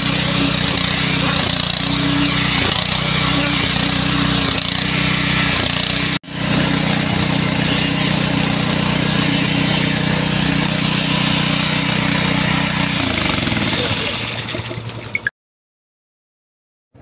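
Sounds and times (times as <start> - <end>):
small petrol engine running: 0.0 - 15.3.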